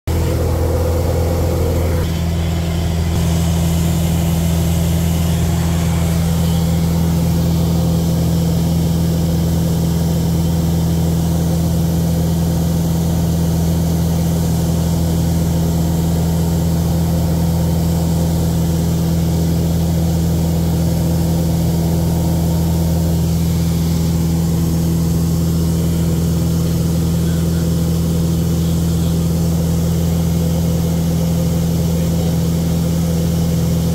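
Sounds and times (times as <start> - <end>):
light aircraft engine and propeller: 0.1 - 33.9.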